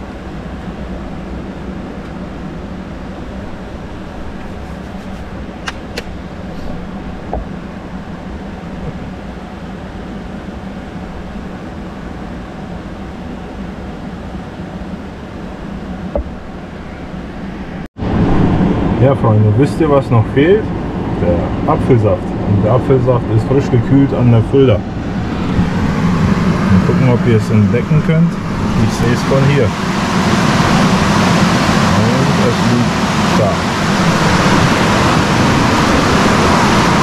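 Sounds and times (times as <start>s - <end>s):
ventilation fans whirring: 0.0s - 37.0s.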